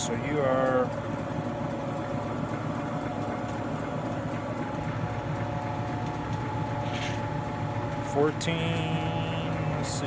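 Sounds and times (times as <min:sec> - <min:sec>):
shop machinery humming: 0:00.0 - 0:10.0.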